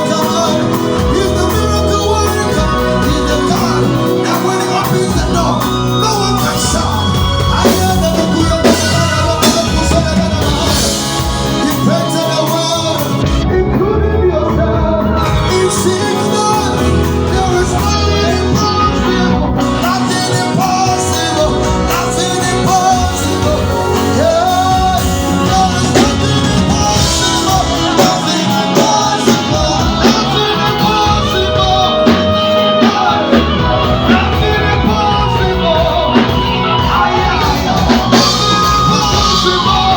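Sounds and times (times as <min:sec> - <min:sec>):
loud music with singing: 0:00.0 - 0:39.9.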